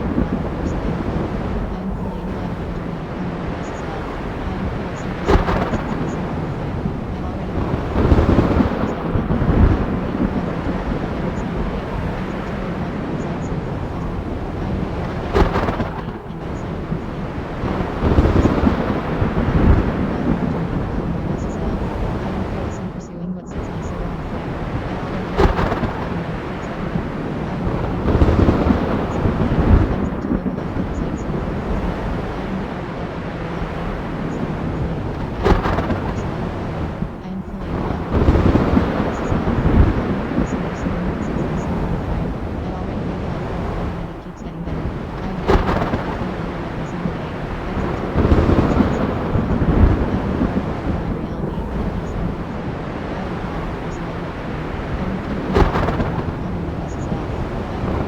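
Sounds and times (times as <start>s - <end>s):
steady rain: 0.0s - 58.0s
thunder crack: 0.0s - 58.0s
thunder rumble: 0.0s - 58.0s
wind: 0.0s - 58.0s.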